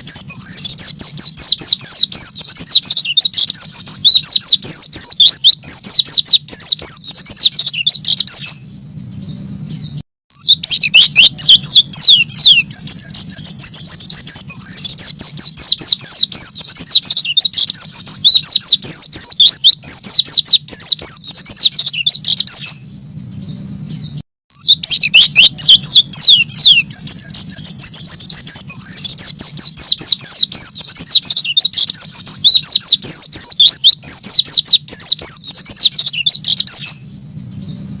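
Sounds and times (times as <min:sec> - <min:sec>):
bird twittering song: 0:00.0 - 0:38.0.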